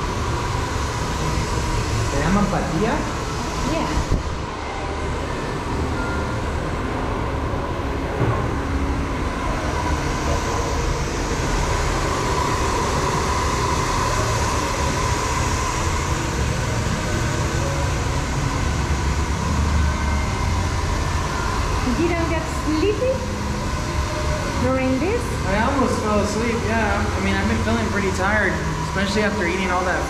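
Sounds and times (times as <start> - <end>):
hair dryer blowing: 0.0 - 30.0.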